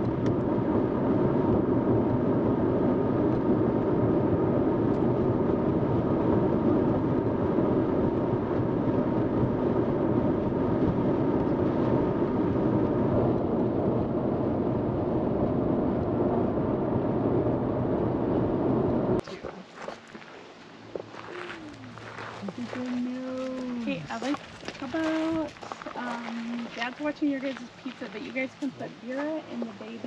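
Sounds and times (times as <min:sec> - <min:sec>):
faint constant hum: 0:00.0 - 0:30.0
vehicle road and engine rumble: 0:00.0 - 0:30.0.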